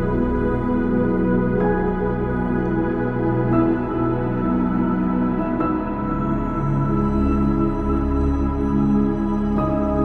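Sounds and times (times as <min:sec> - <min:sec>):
soft ambient music: 0:00.0 - 0:10.0.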